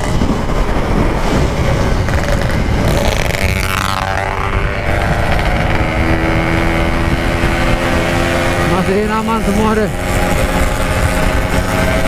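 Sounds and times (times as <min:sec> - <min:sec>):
wind noise on microphone: 0:00.0 - 0:12.0
two-stroke motorcycle engine: 0:02.0 - 0:12.0.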